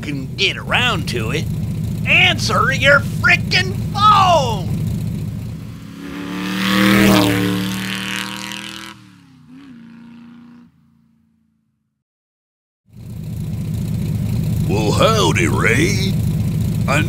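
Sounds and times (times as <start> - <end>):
motorcycle engine revving: 0.0 - 11.7, 12.9 - 17.0.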